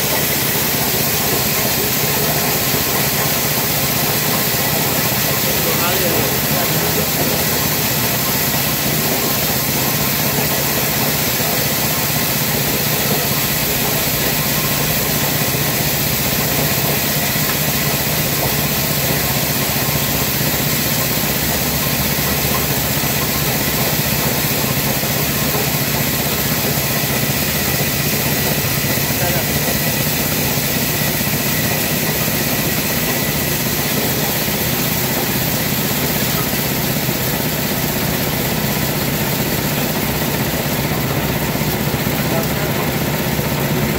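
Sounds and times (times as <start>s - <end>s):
coffee huller and blower fan: 0.0s - 43.9s
small engine running: 0.0s - 43.9s.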